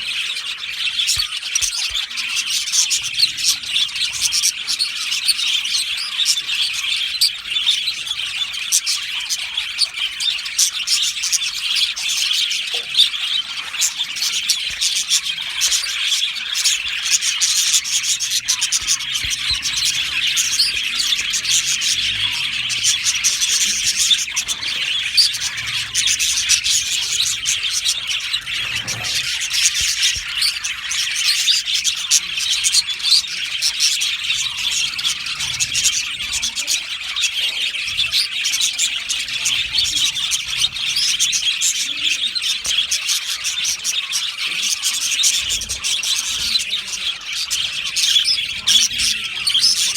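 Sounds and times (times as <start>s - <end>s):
budgerigars chirping and chattering: 0.0s - 49.9s.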